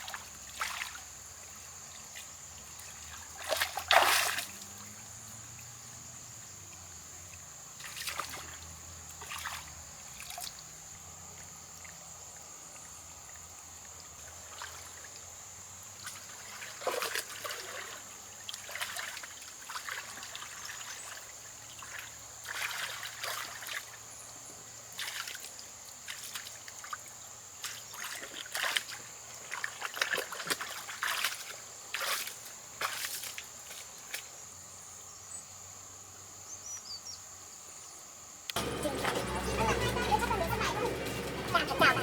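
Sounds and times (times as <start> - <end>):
water trickling and splashing: 0.0 - 34.4, 38.5 - 42.0.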